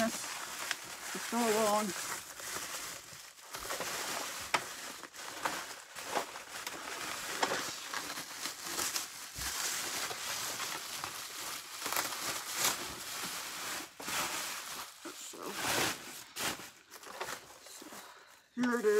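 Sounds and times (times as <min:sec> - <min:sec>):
packaging rustling and crinkling: 0:00.0 - 0:18.9.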